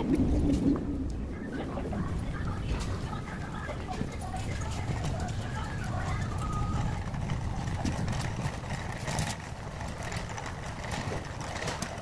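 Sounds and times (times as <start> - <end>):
cart wheels rumbling: 0.0 - 12.0.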